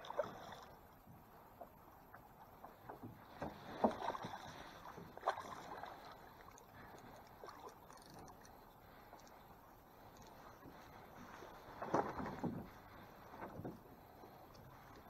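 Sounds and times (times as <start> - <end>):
water splashing beside boat: 0.0 - 15.0.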